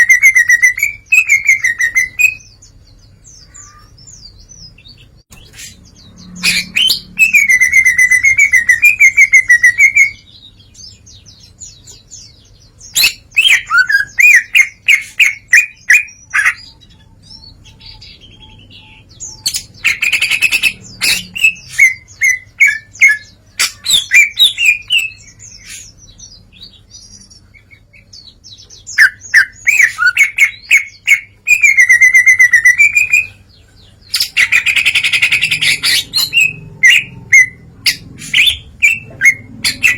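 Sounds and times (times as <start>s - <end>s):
bird singing trills and warbles: 0.0s - 39.9s.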